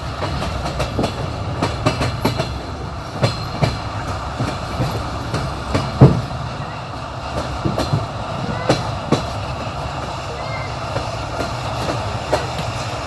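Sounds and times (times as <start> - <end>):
railway carriage rumble: 0.0 - 13.0
train wheels clacking: 0.0 - 13.0.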